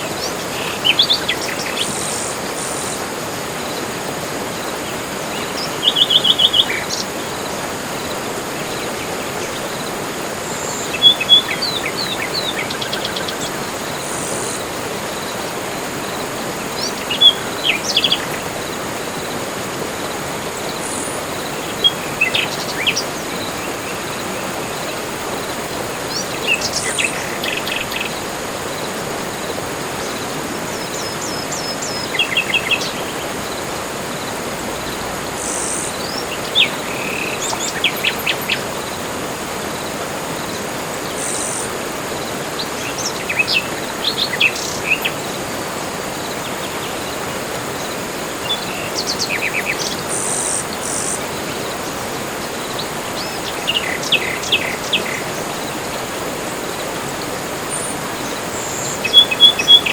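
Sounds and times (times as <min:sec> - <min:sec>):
background hiss: 0:00.0 - 0:59.9
birds chirping: 0:04.6 - 0:59.9.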